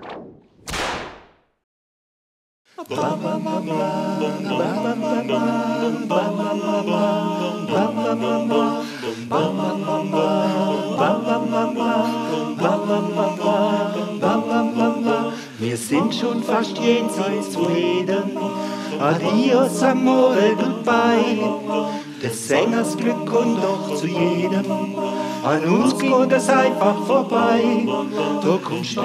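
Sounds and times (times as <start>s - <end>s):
male choir singing harmony: 2.8s - 29.0s.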